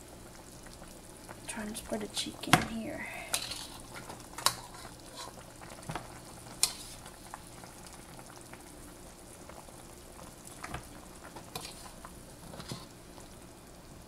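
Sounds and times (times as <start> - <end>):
sauce bubbling and sizzling in a wok: 0.0 - 14.0.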